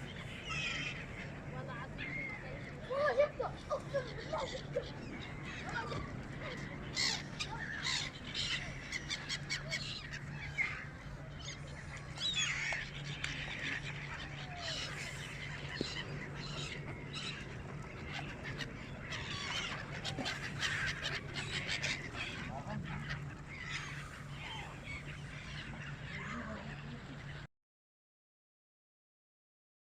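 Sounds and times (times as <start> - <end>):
birds calling and chirping: 0.0 - 27.5
steady low hum: 0.0 - 27.5.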